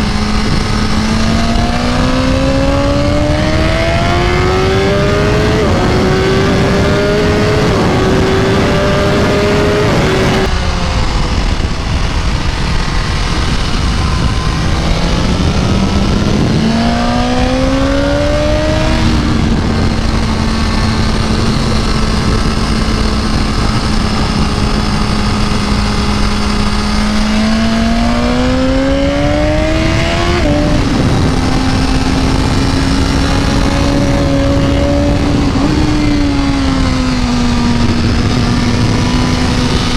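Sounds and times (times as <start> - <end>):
heavy wind noise: 0.0 - 39.9
motorcycle engine at speed: 0.0 - 39.9.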